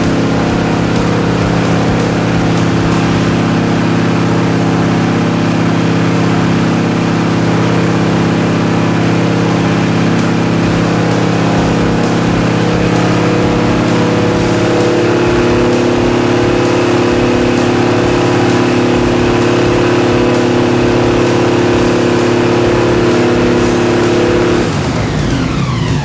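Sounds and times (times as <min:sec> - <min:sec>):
airboat engine and propeller: 0:00.0 - 0:26.0.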